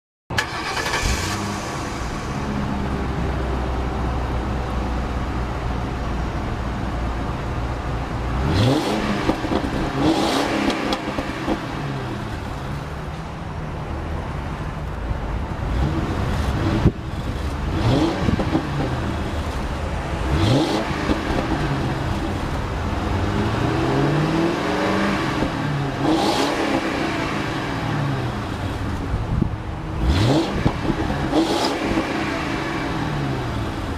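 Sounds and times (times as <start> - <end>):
car engine starting and revving: 0.3 - 5.1, 8.2 - 13.0, 15.5 - 33.9.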